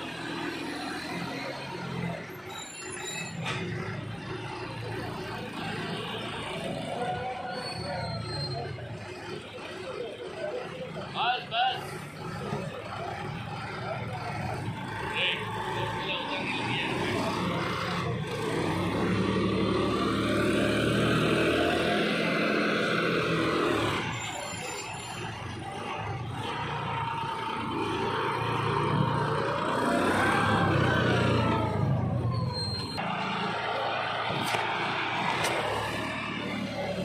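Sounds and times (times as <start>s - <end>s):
tractor diesel engine revving: 0.0s - 3.0s, 3.6s - 37.0s.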